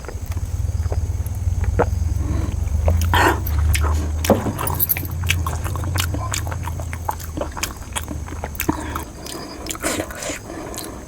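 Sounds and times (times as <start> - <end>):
low hum: 0.0 - 10.1
chewing and mouth sounds: 0.0 - 11.0.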